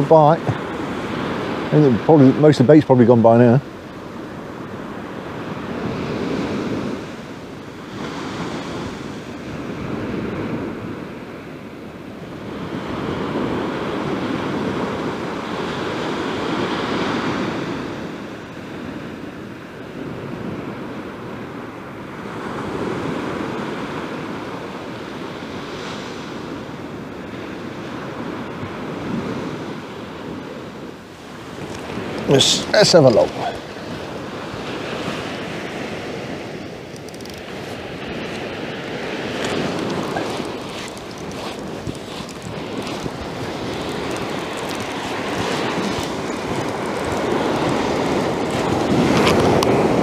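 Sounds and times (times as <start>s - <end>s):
surf breaking on a beach: 0.0s - 50.0s.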